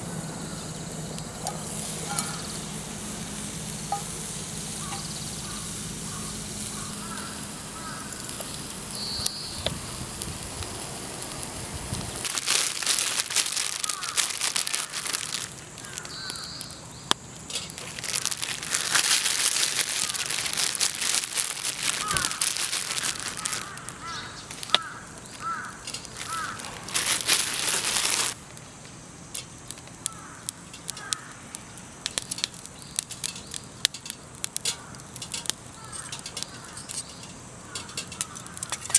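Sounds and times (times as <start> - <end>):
birds calling: 0.0 - 12.2, 12.9 - 28.4, 29.8 - 33.9, 34.5 - 38.9
hissing crackling noise: 0.0 - 38.9.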